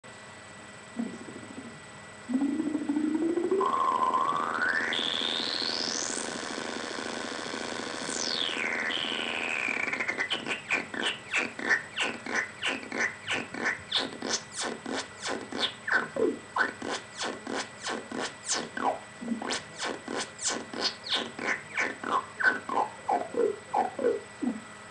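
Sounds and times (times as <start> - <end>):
rapid pulsing synth blips: 1.0 - 24.6
synthesizer tone sweeping: 1.0 - 24.7.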